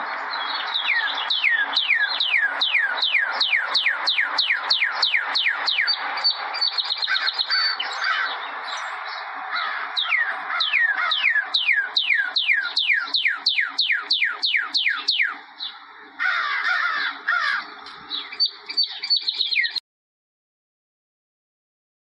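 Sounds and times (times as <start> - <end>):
bird chattering: 0.6 - 19.8.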